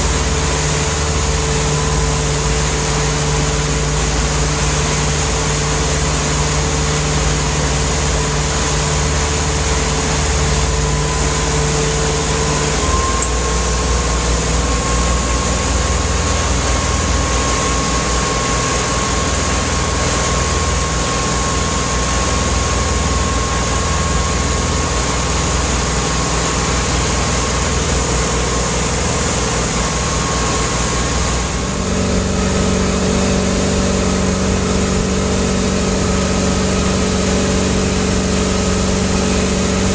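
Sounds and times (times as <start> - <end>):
motorboat engine running: 0.0 - 39.9
rush of boat wake: 0.0 - 39.9.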